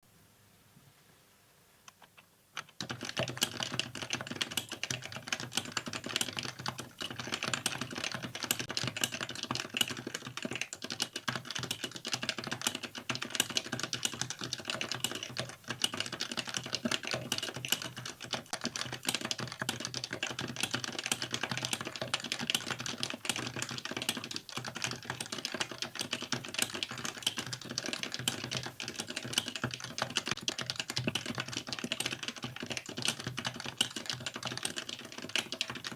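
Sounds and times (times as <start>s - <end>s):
fast keyboard typing: 2.6s - 35.9s.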